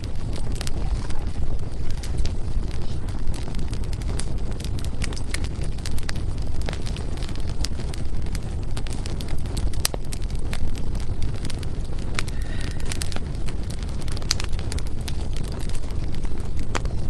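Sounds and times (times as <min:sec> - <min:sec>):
firewood crackling in fireplace: 0:00.0 - 0:17.0
sharp pop of burning wood: 0:00.0 - 0:17.0
steady low rumble: 0:00.0 - 0:17.0.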